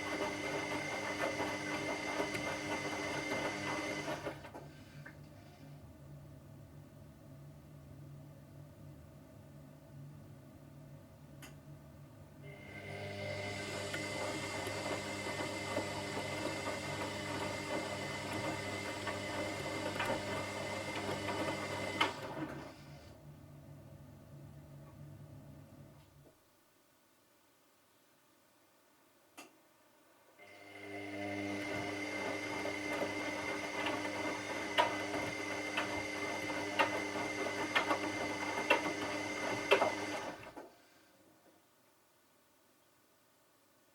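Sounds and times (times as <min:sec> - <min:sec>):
washing machine whirring hum: 0:00.0 - 0:26.4, 0:30.0 - 0:41.7.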